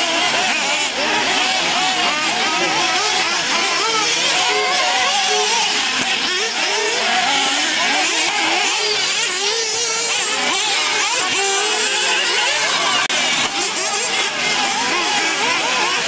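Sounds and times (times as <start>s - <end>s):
rc buggy engines whining: 0.0s - 16.0s.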